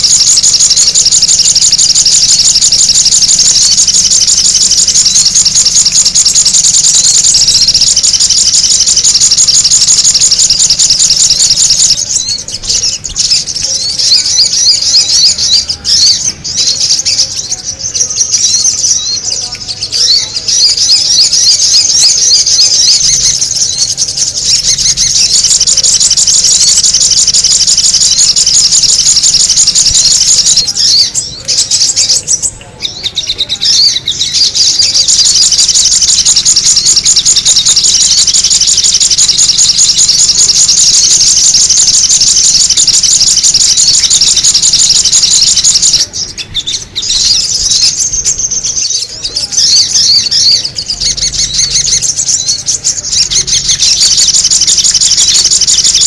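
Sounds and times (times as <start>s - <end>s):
high-pitched bird chatter: 0.0s - 56.0s.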